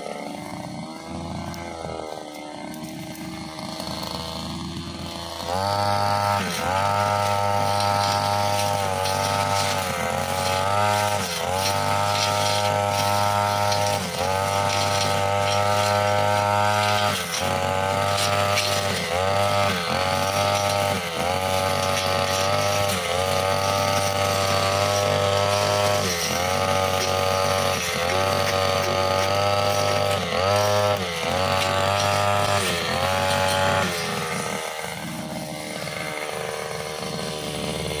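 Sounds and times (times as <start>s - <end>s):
brushcutter engine running: 0.0s - 38.0s.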